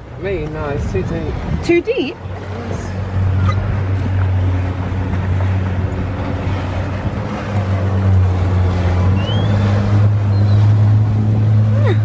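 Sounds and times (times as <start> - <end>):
motorboat engine running: 0.0 - 12.0
wind and water rushing: 0.0 - 12.0.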